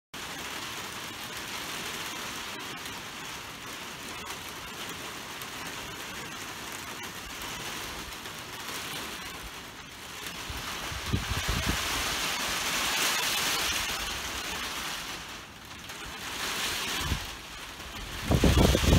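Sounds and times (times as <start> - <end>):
heavy rain pouring: 0.2 - 18.9.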